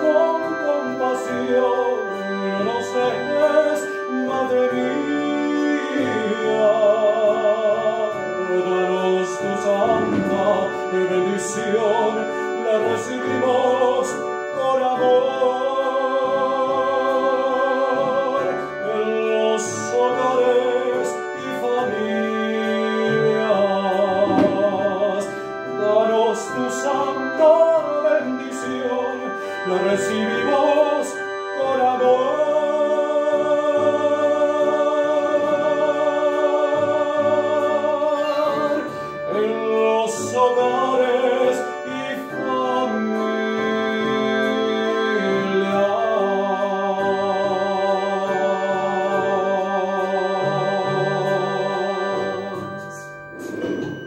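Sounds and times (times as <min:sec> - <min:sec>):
electronic keyboard chords: 0:00.0 - 0:54.0
man singing with vibrato: 0:00.0 - 0:54.0.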